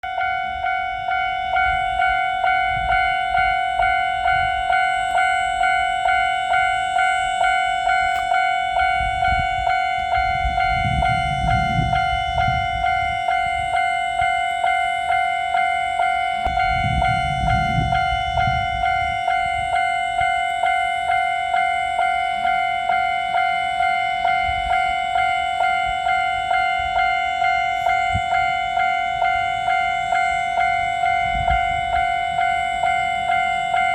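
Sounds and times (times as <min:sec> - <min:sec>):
level crossing bell clanging: 0:00.0 - 0:33.9
passing train rumble: 0:00.0 - 0:33.9.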